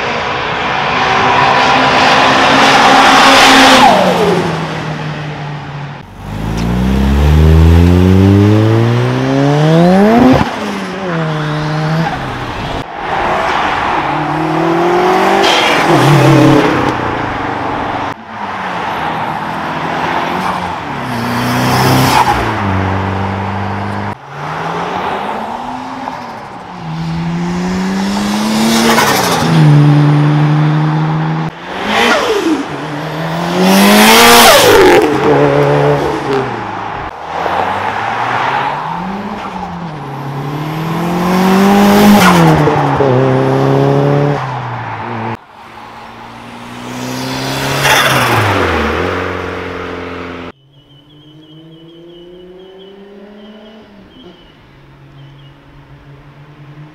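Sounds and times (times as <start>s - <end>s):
cars accelerating hard: 0.0s - 5.1s, 6.0s - 54.5s.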